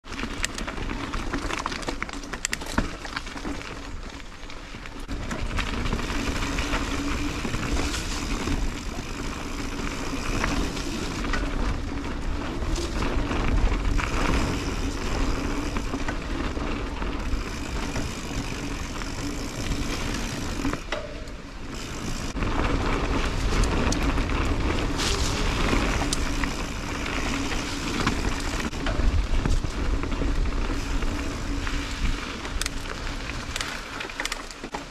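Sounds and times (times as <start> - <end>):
bike rattles and knocks: 0.0 - 34.9
bike tyres rolling on dirt: 0.0 - 34.9
wind rumble on microphone: 5.0 - 33.8.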